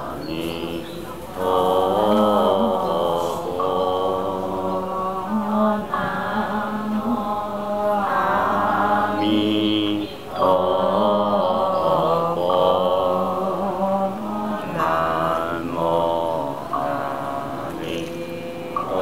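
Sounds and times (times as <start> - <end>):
group chanting in unison: 0.0 - 19.0.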